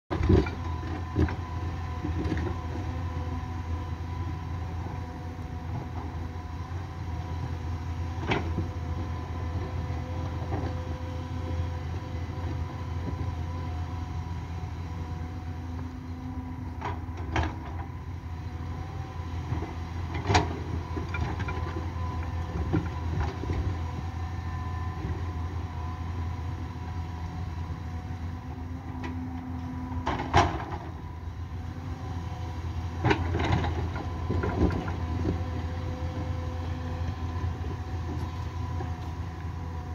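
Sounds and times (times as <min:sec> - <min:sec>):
excavator engine hum: 0:00.1 - 0:39.9.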